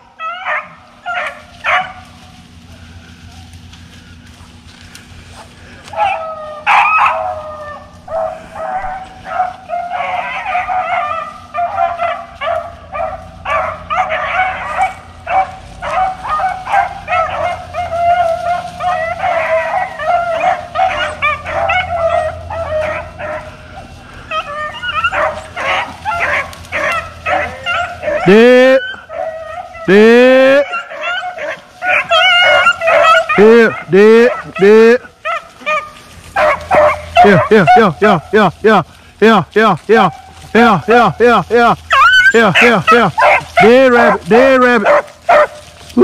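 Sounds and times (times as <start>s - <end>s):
pack of hounds baying: 0.0s - 46.0s.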